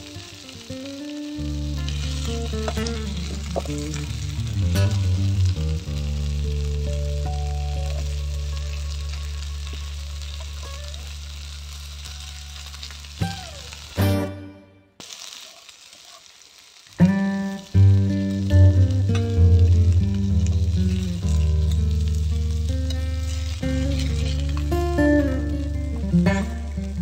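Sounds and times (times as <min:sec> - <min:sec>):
background music with low notes: 0:00.0 - 0:11.5, 0:13.2 - 0:14.9, 0:17.0 - 0:27.0
fish sizzling in a pan: 0:00.0 - 0:14.3, 0:15.0 - 0:27.0.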